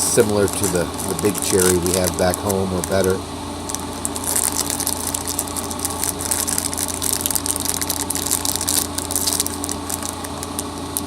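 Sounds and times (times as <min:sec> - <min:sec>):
candy wrapper crinkling: 0:00.0 - 0:11.0
steady low hum: 0:00.0 - 0:11.0.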